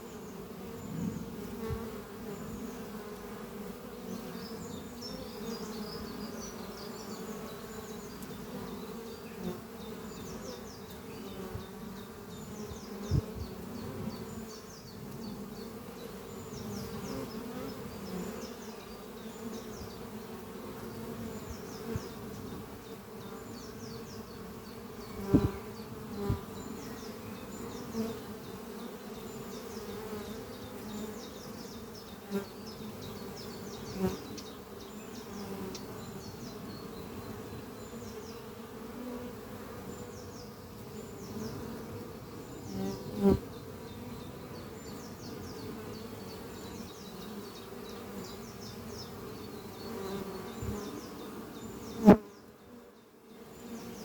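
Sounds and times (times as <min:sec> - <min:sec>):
bees buzzing at a hive: 0:00.0 - 0:54.0
single bee buzzing past: 0:00.0 - 0:54.0.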